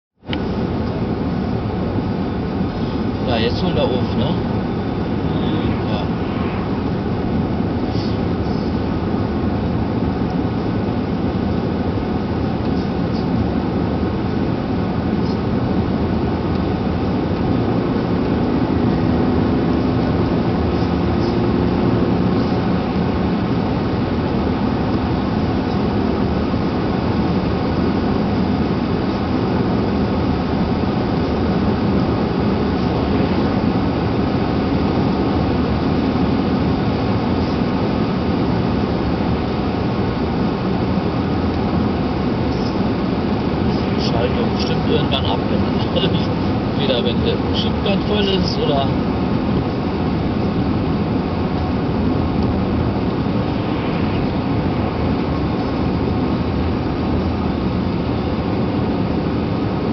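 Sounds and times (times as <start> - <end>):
car driving at speed interior: 0.2 - 59.9.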